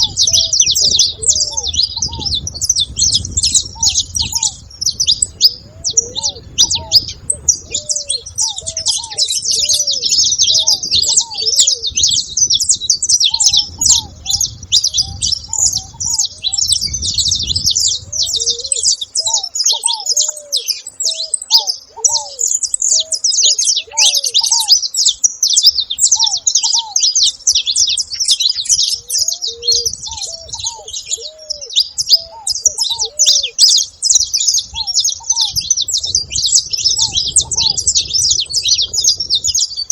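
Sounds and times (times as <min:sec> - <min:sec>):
flock of finches chirping: 0:00.0 - 0:39.9
repeated arched bird call: 0:00.0 - 0:39.9.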